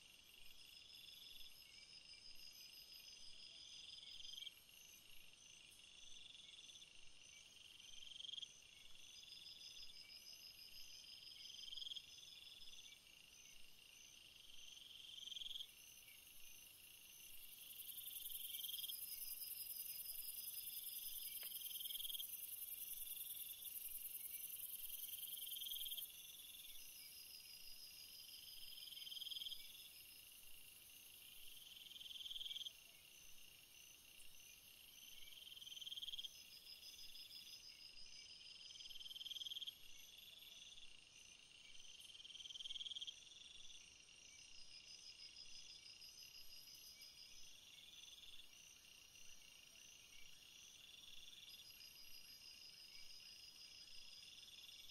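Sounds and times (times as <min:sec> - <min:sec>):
lower insect call: 0:00.0 - 0:54.9.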